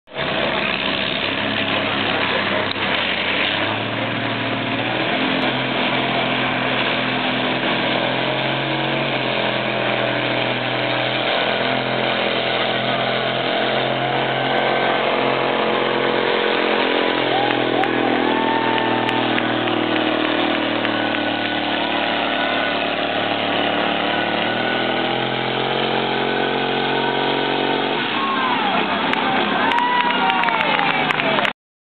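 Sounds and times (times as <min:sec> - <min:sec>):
diesel tractor engine under load: 0:00.0 - 0:31.6.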